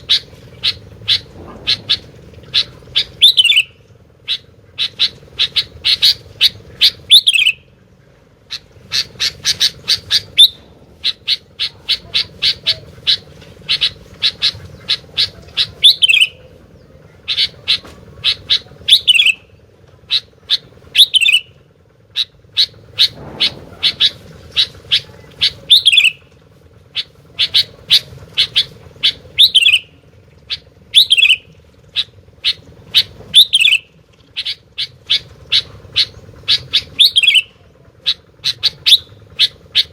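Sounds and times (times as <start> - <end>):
bulbul singing: 0.0 - 39.9
steady low hum: 0.0 - 39.9.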